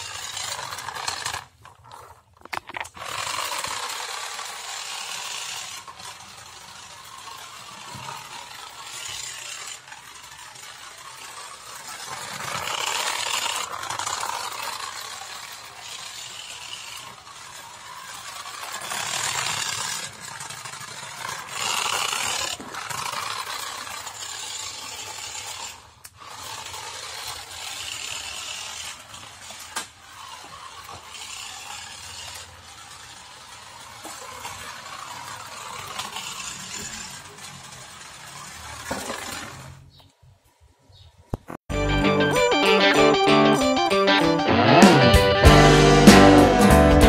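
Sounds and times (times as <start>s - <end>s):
toy car motor and wheels rattling: 0.0s - 41.3s.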